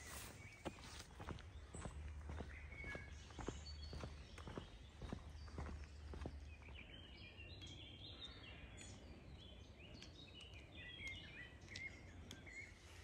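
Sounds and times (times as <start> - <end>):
faint songbird chirping: 0.0 - 13.0.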